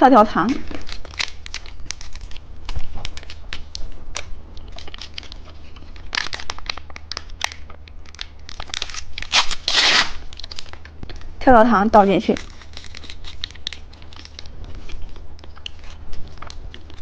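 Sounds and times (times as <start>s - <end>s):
plastic wrapper crinkling: 0.4s - 17.0s
wrapper tearing open: 0.5s - 11.3s, 12.2s - 17.0s.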